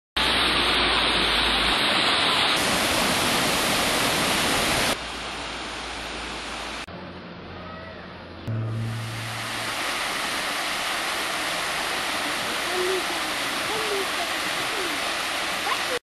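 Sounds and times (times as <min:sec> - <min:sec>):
waterfall rushing: 0:00.2 - 0:06.9, 0:08.5 - 0:16.0.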